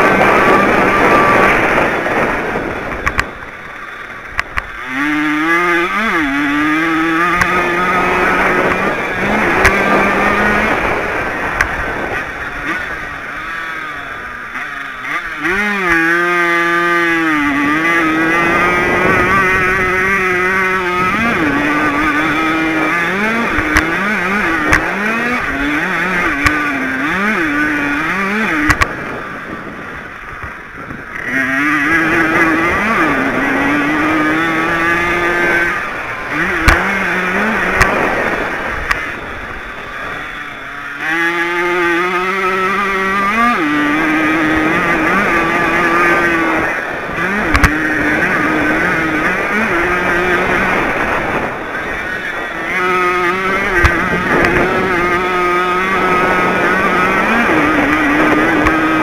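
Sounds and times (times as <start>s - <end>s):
two-stroke motocross bike revving: 0.0s - 59.0s.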